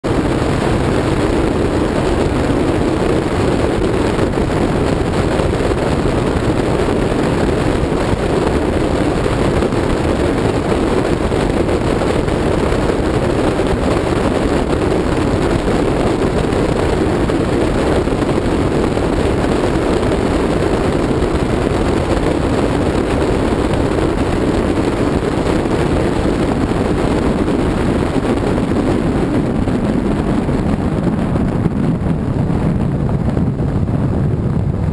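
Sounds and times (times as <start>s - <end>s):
car wind and road noise: 0.0s - 34.9s.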